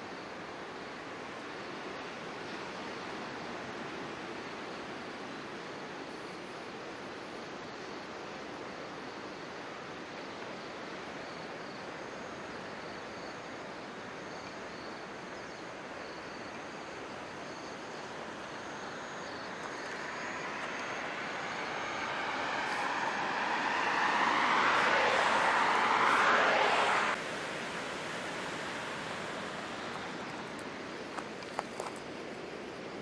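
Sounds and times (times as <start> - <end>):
outdoor background noise: 0.0 - 33.0.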